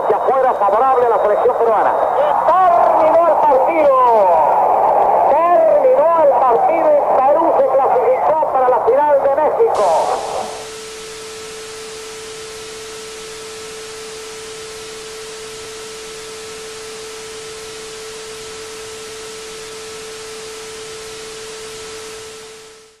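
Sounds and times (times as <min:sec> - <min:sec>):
held pure tone: 0:00.0 - 0:23.0
static hiss: 0:00.0 - 0:23.0.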